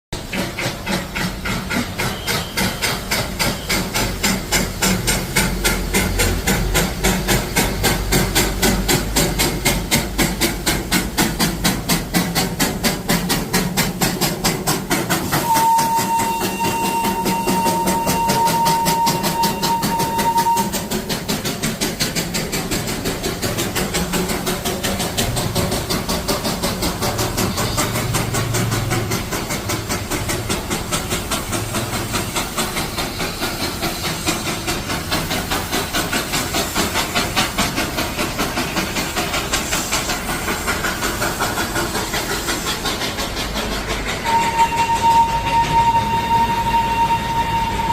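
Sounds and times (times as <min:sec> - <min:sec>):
steam engine chugging: 0:00.1 - 0:47.9
steam locomotive whistle: 0:00.2 - 0:09.9, 0:11.4 - 0:38.2, 0:39.0 - 0:47.9
steam hissing: 0:00.2 - 0:47.9.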